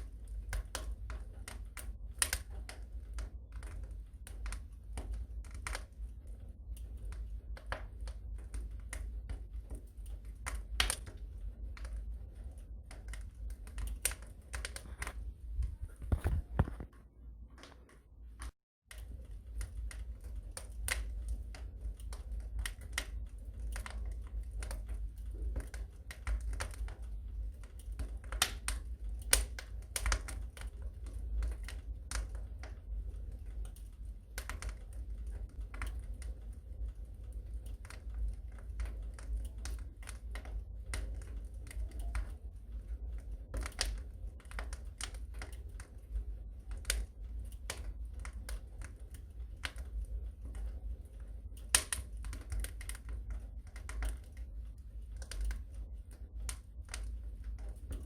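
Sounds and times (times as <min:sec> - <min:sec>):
fire pops and snaps: 0:00.0 - 0:58.0
low rumble of flames: 0:00.0 - 0:58.0.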